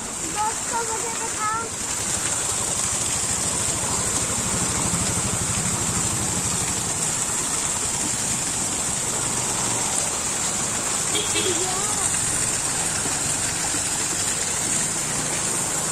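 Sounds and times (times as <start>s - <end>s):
vehicle engine idling: 0.4s - 15.9s.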